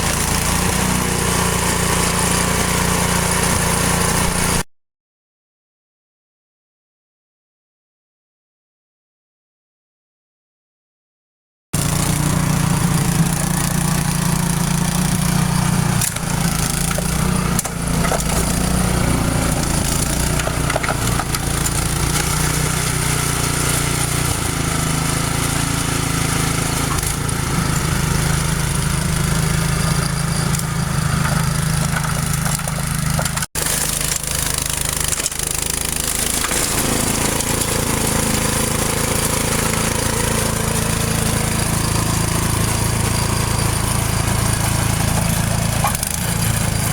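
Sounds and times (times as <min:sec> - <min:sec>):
leaf blower engine running: 0:00.0 - 0:04.6, 0:11.8 - 0:46.9.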